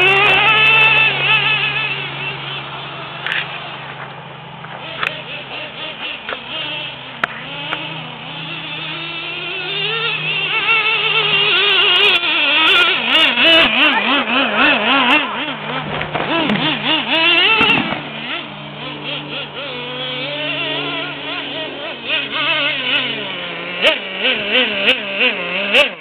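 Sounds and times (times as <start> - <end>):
nitro rc engine whining: 0.0 - 26.0.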